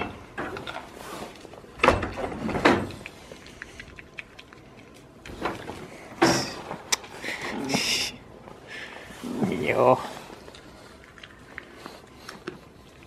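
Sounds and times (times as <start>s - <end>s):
goats nibbling: 0.0s - 13.0s
rustling: 0.0s - 13.0s.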